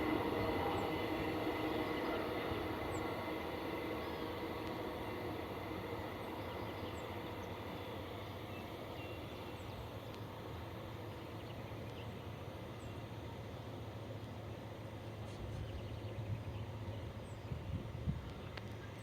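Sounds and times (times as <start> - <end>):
distant freight train rumble: 0.0 - 19.0.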